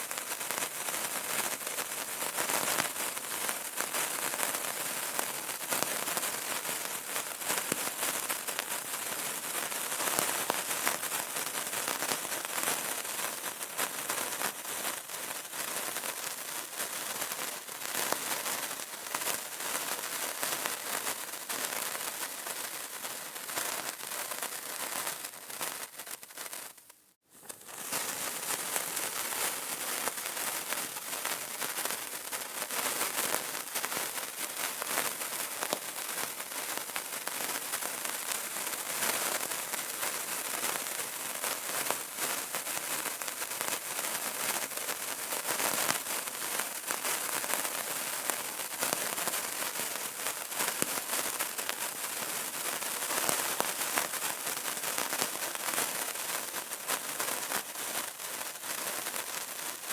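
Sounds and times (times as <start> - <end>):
candle crackling: 1.2 - 59.9.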